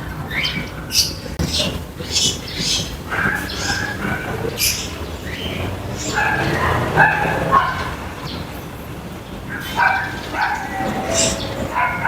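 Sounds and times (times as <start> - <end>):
birds chirping: 0.0 - 12.0
dogs barking: 0.0 - 12.0.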